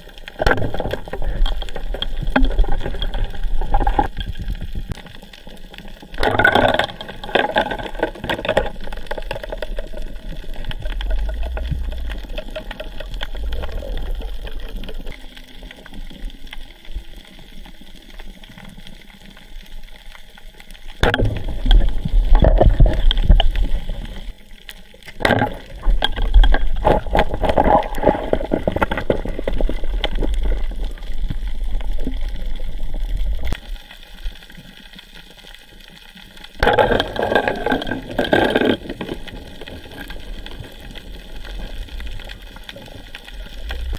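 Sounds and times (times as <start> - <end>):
water sloshing and gurgling: 0.0 - 34.8, 36.2 - 43.9.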